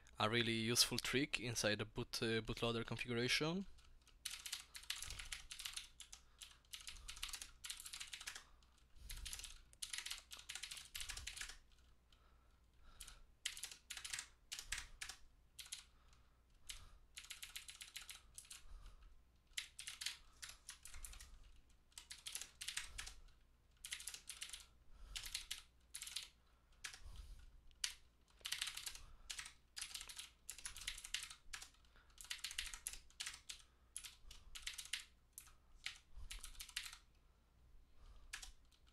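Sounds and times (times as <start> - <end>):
fast keyboard typing: 2.6 - 11.9, 12.9 - 27.0, 27.7 - 37.1, 38.2 - 38.9.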